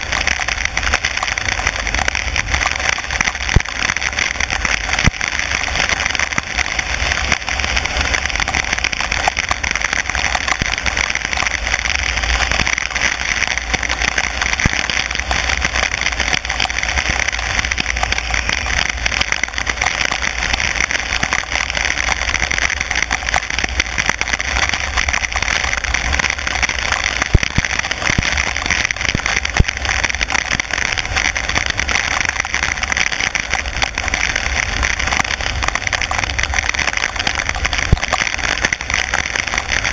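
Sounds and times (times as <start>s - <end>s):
rain on car: 0.0s - 39.9s
tyres hissing on wet road: 0.0s - 39.9s.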